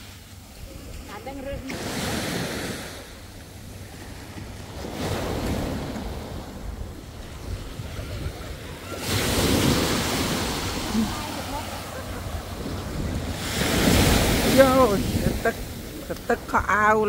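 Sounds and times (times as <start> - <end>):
small waves washing onto shore: 0.0 - 17.0
wind rumble on microphone: 0.0 - 17.0.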